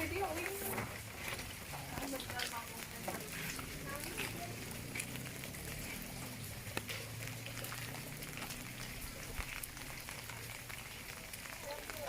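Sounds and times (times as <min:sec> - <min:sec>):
drips ticking: 0:00.0 - 0:12.0
rain falling: 0:00.0 - 0:12.0.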